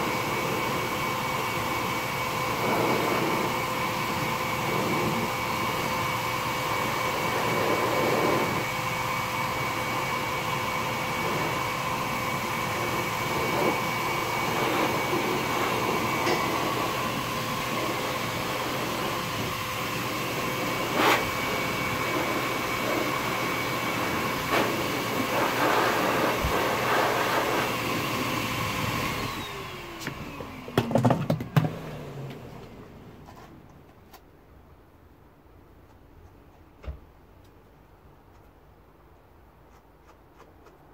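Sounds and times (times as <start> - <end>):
grooming blower whining: 0.0 - 33.6.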